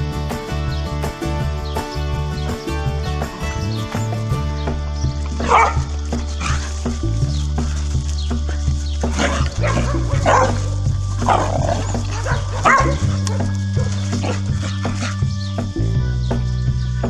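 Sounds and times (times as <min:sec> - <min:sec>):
background music with bass: 0:00.0 - 0:17.0
puppies yapping: 0:01.1 - 0:15.6.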